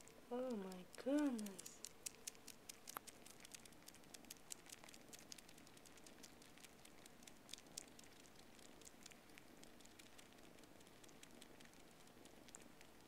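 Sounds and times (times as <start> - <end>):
kittens suckling clicks: 0.0 - 13.0.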